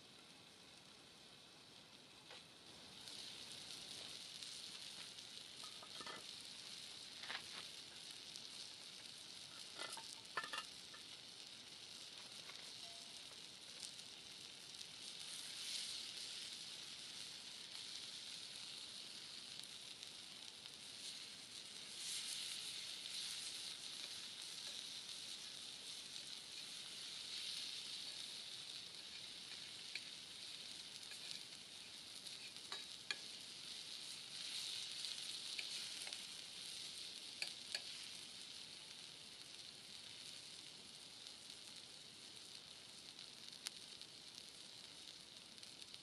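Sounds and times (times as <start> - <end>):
chicken sizzling over campfire: 0.0 - 46.0.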